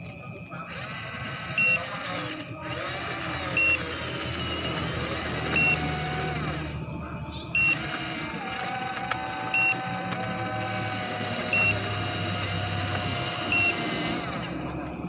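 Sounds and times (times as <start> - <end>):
low hum with wavering tones: 0.0 - 15.0.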